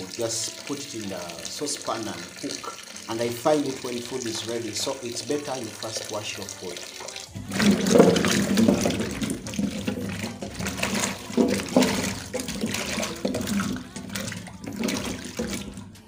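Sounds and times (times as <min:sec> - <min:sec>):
water sloshing in a sink: 0:00.0 - 0:16.0.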